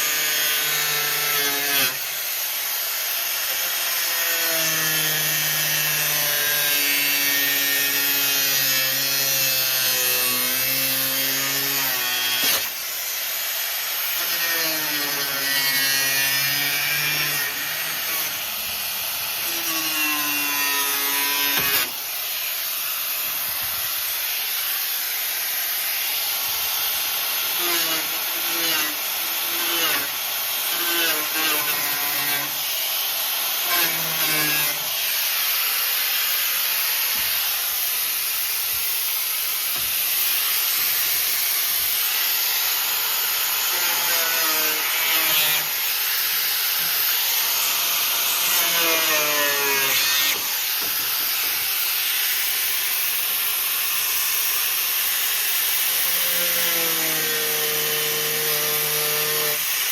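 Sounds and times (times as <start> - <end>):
angle grinder cutting steel: 0.0 - 59.9.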